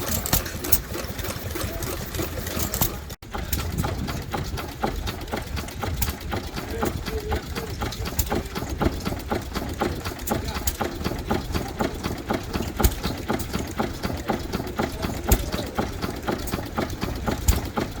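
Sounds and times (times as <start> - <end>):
loud engine bangs: 0.0 - 18.0
stationary engine clattering: 0.0 - 18.0.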